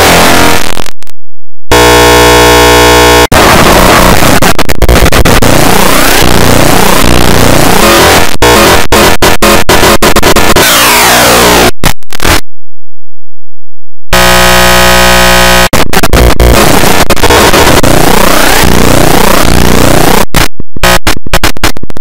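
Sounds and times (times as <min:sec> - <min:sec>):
distorted sweeping electronic noise: 0:00.0 - 0:00.9, 0:01.7 - 0:12.4, 0:14.2 - 0:21.9
steady buzzing tone: 0:00.0 - 0:00.9, 0:01.7 - 0:12.4, 0:14.2 - 0:21.8.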